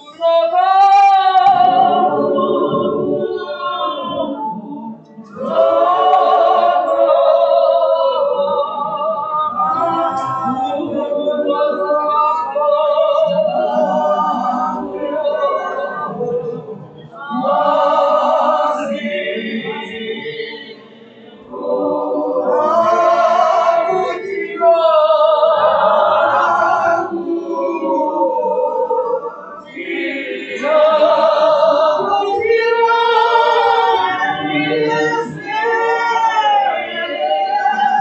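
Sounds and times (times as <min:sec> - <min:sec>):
group singing a hymn: 0:00.0 - 0:38.0.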